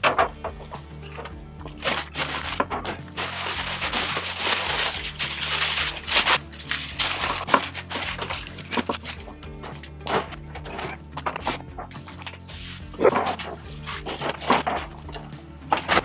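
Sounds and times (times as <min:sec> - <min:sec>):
background music: 0:00.0 - 0:16.0
aluminium foil crinkling: 0:01.0 - 0:16.0.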